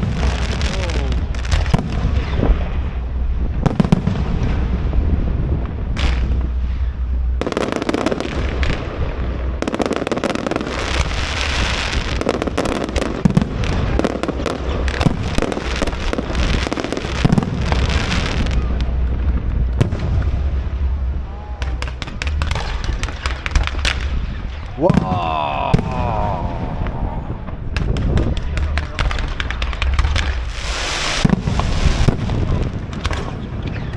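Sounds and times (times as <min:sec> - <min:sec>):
fireworks bangs and crackling: 0:00.0 - 0:33.9
low rumble: 0:00.0 - 0:33.9.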